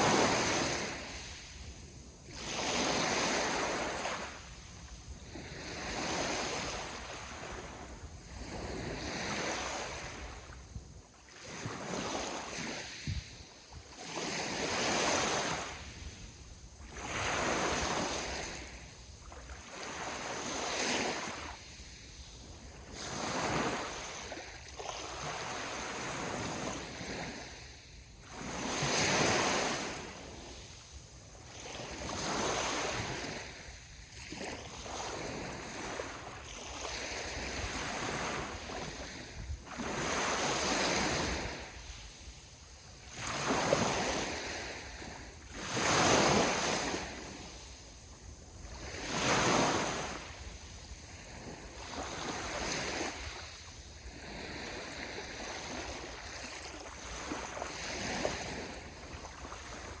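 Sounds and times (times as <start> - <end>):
wind on microphone: 0.0 - 30.9, 31.6 - 60.0
ocean waves breaking on shore: 0.0 - 60.0.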